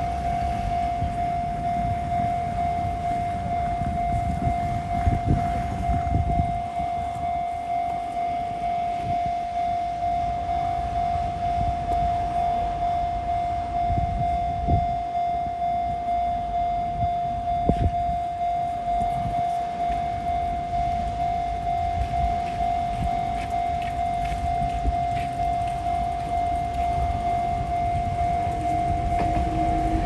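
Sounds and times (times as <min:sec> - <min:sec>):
level crossing warning bell: 0:00.0 - 0:30.0.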